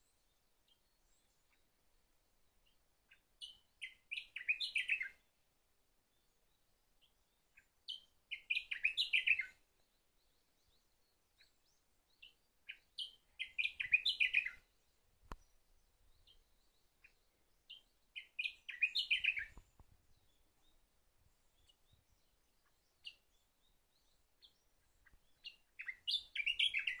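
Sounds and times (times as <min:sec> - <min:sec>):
warbler singing: 0:02.6 - 0:05.4, 0:06.1 - 0:27.0.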